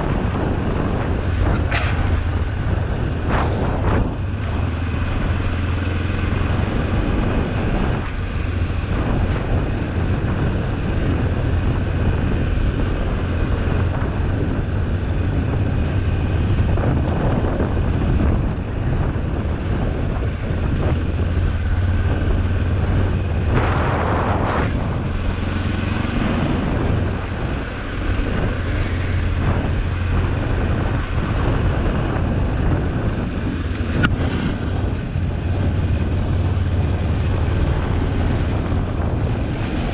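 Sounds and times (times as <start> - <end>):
motorcycle engine running steadily: 0.0 - 39.9
wind on microphone: 0.0 - 39.9.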